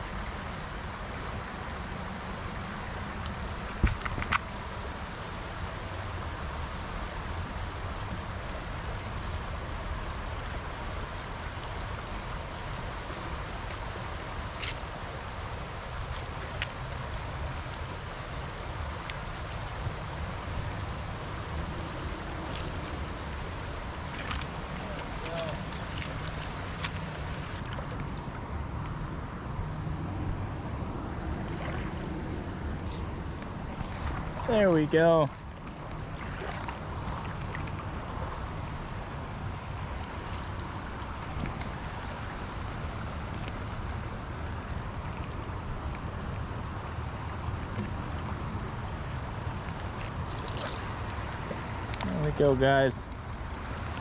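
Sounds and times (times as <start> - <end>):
creek water running over stones: 0.0 - 54.0
wind rumble on microphone: 0.0 - 54.0.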